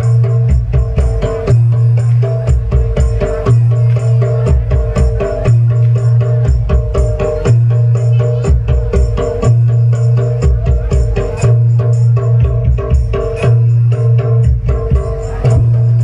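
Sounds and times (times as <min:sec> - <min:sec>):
fast drum strokes: 0:00.0 - 0:16.0
low booming tone: 0:00.0 - 0:16.0
metallophone notes: 0:00.0 - 0:16.0.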